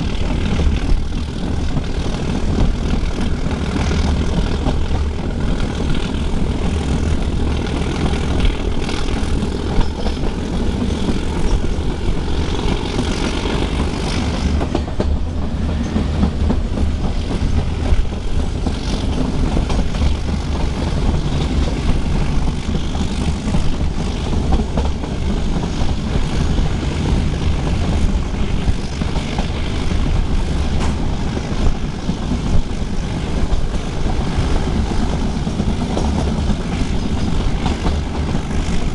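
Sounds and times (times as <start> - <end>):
train rumbling on track: 0.0 - 38.9
wheels clicking on rails: 0.0 - 38.9.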